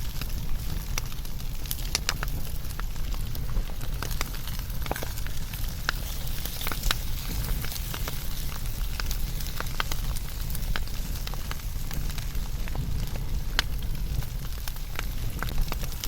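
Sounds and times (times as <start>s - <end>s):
fire crackling and popping: 0.0s - 16.0s
low rumble of flame: 0.0s - 16.0s.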